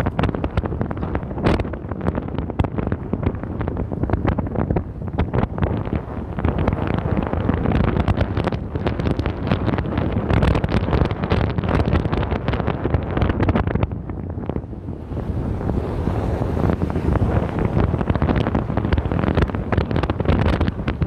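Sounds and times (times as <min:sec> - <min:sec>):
car rumbling on road: 0:00.0 - 0:21.0
wind buffeting microphone: 0:00.0 - 0:21.0.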